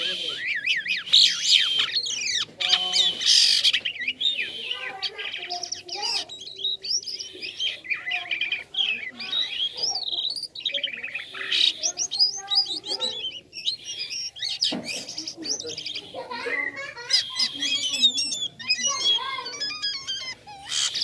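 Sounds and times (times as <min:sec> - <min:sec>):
starling chirping and whistling: 0:00.0 - 0:21.0.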